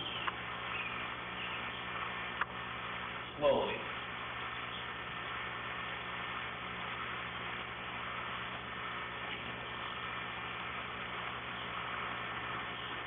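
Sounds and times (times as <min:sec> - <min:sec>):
even hiss: 0:00.0 - 0:13.0
steady low hum: 0:00.0 - 0:13.0.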